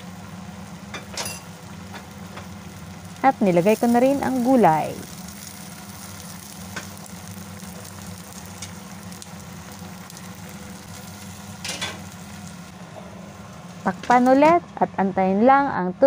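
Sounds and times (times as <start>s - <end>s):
broth simmering and sizzling in a wok: 0.0s - 14.3s.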